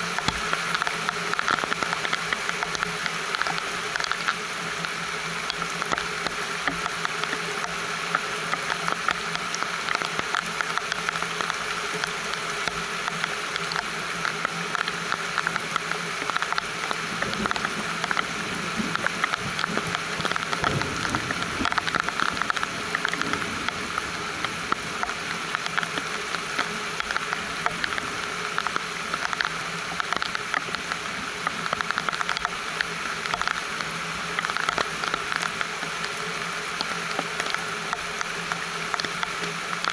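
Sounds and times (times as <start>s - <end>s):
rain pattering on a roof: 0.0s - 39.9s.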